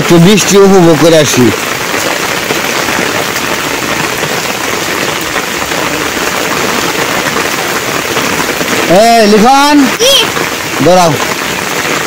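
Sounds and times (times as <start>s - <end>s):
heavy rain on foliage: 0.0s - 12.0s.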